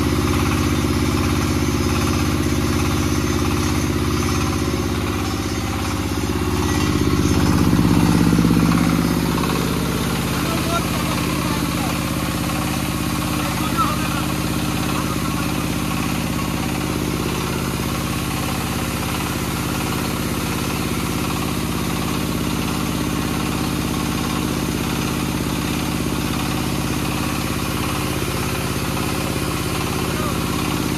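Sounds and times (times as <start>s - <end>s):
rice mill running: 0.0s - 30.9s.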